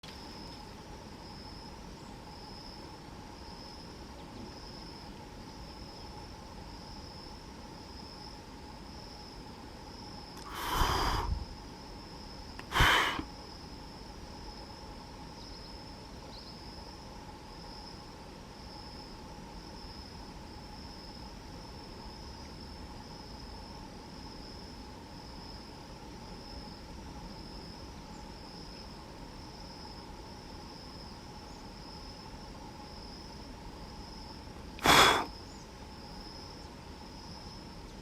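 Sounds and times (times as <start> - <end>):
insects droning: 0.0 - 38.0.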